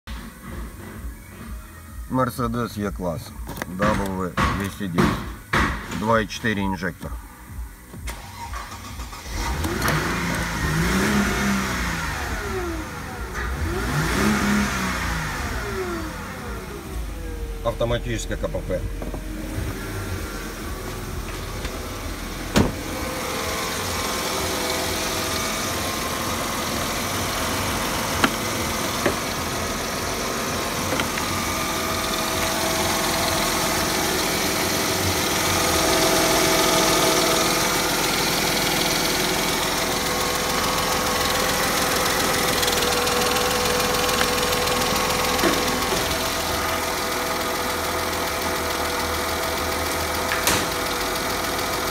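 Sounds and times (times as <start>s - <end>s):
car engine idling: 0.1s - 51.9s.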